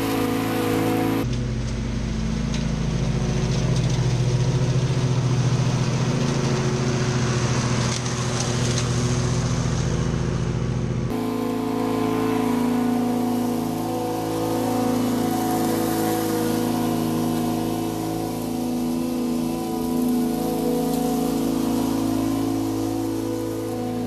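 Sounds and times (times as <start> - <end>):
mower deck mulching dry leaves: 0.0 - 24.0
ride-on mower running: 0.0 - 24.0.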